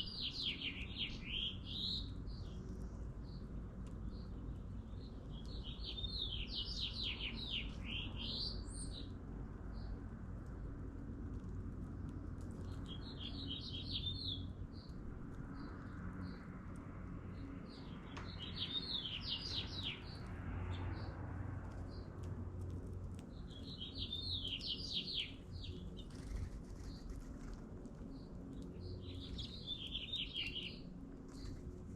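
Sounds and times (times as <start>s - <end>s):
songbird singing: 0.0s - 10.0s, 12.5s - 22.2s, 23.1s - 31.7s
steady low background rumble: 0.0s - 31.9s.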